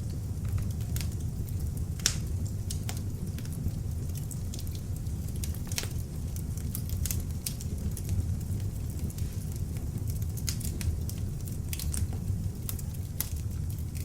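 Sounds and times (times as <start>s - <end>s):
fire crackling and popping: 0.0s - 14.0s
log fire rumbling: 0.0s - 14.0s.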